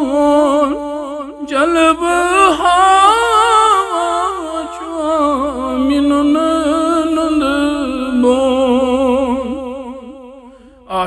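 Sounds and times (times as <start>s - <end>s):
man singing unaccompanied: 0.0s - 10.2s.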